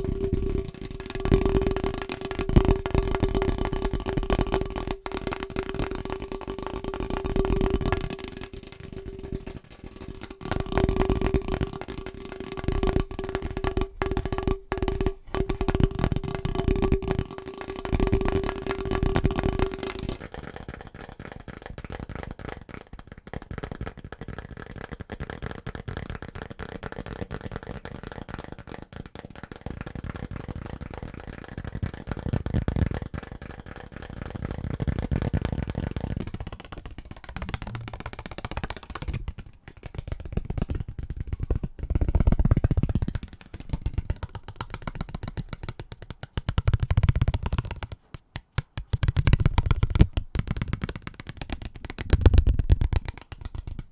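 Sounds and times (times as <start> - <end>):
fast tapping on household objects: 0.0 - 53.9.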